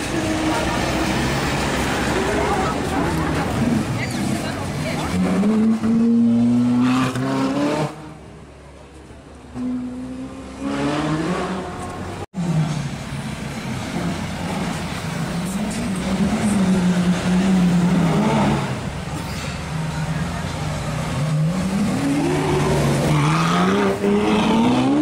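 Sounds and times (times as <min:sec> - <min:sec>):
high-revving car engines: 0:00.0 - 0:08.4, 0:09.4 - 0:25.0.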